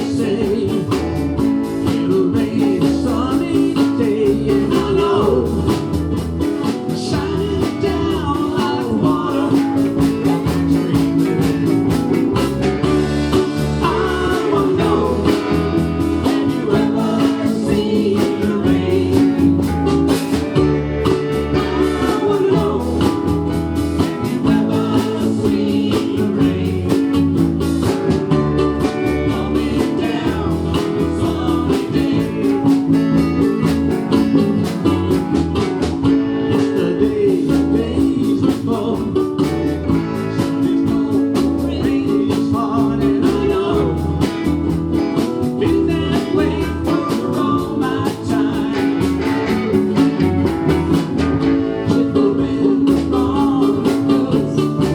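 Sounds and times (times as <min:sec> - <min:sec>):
people singing: 0:00.0 - 0:54.9
ukuleles strumming: 0:00.0 - 0:54.9.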